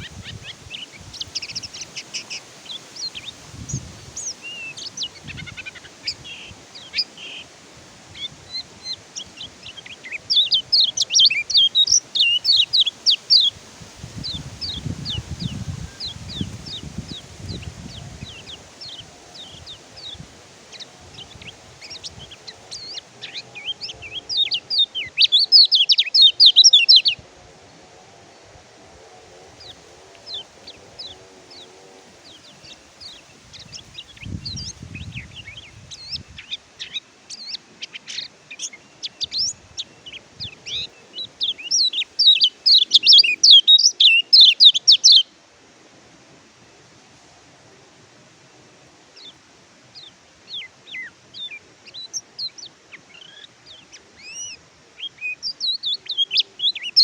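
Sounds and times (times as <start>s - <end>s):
bird chirping and twittering: 0.0s - 7.5s, 8.1s - 27.2s, 29.6s - 45.3s, 50.0s - 57.0s.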